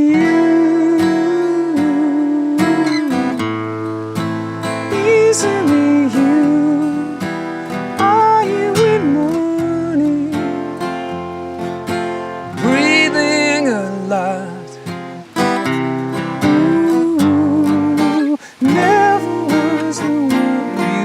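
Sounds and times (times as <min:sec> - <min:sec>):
person singing long notes: 0:00.0 - 0:11.4, 0:12.2 - 0:21.0
acoustic guitar strumming: 0:00.0 - 0:21.0.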